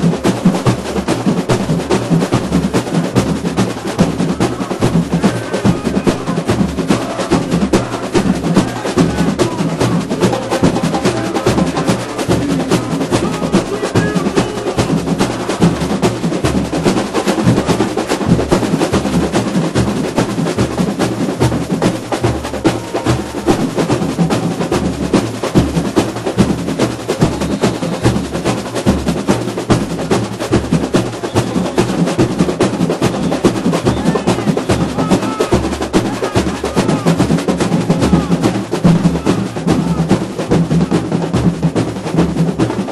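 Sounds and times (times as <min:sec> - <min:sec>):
bass drums beating: 0:00.0 - 0:42.9
hand percussion: 0:00.0 - 0:42.9
snare drum rolls: 0:00.0 - 0:42.9.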